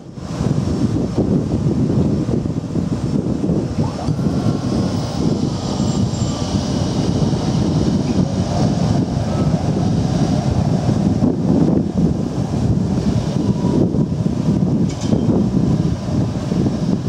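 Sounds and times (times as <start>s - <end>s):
tram wheels rumbling on rails: 0.0s - 17.0s
high wheel tones on curve: 0.4s - 17.0s.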